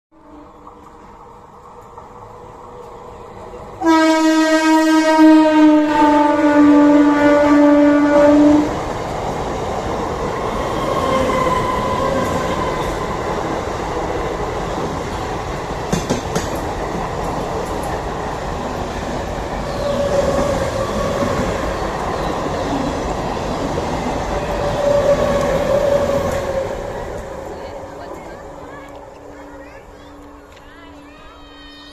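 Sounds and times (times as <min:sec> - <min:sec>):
faint train whine: 0:00.2 - 0:31.9
train wheels rumbling on rails: 0:00.5 - 0:31.9.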